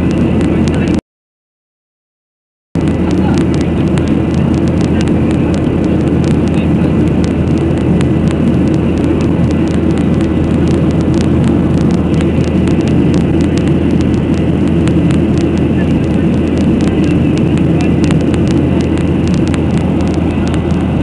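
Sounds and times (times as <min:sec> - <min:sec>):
aircraft engine drone: 0:00.0 - 0:01.0, 0:02.8 - 0:21.0
faint rapid ticks: 0:02.8 - 0:21.0.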